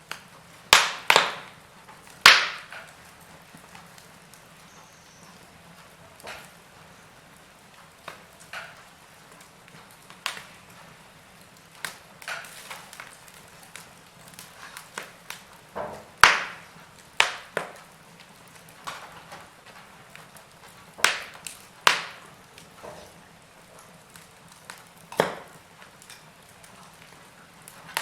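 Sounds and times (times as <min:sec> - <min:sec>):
burning logs crackling: 0:00.0 - 0:28.0
faint steady hiss: 0:00.0 - 0:28.0.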